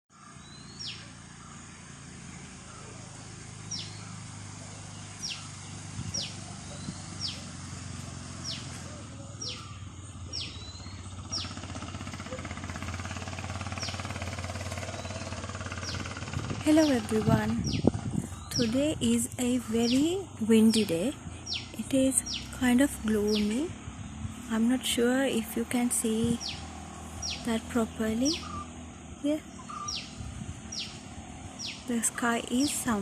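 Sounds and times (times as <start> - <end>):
bird calling: 0.1 - 33.0
steady low rumble: 2.7 - 33.0.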